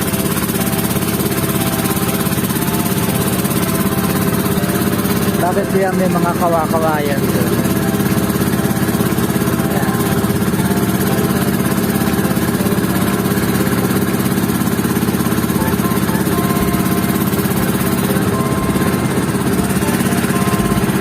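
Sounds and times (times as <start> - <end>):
boat engine pulsing drone: 0.0 - 21.0.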